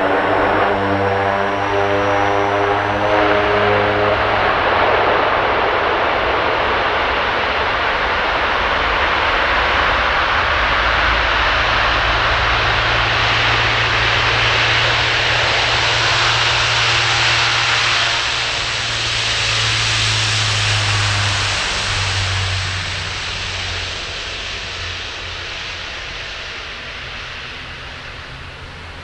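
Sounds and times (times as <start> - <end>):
jet engines running loud: 0.0 - 29.0.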